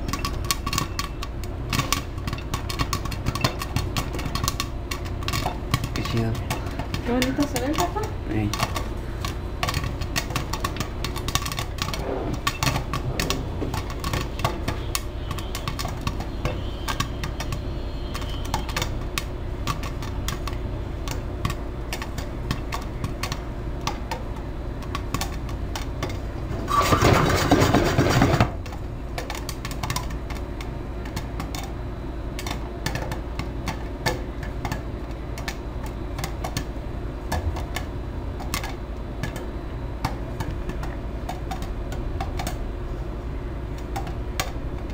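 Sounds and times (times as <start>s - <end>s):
popcorn popping in a pan: 0.0s - 44.9s.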